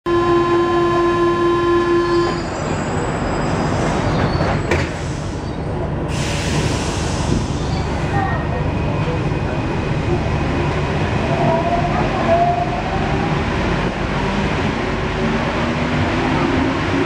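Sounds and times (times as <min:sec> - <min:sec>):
train car running rumble: 0:00.1 - 0:17.0.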